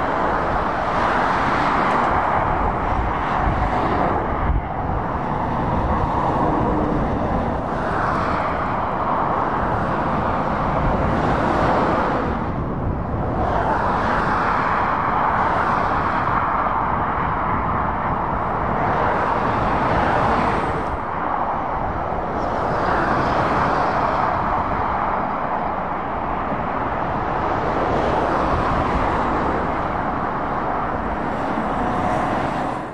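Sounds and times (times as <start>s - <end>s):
vehicles passing on road: 0.0s - 32.9s.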